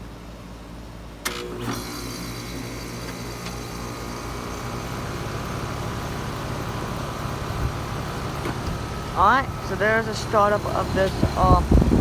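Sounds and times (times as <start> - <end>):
heat pump compressor and fan humming: 0.0 - 12.0.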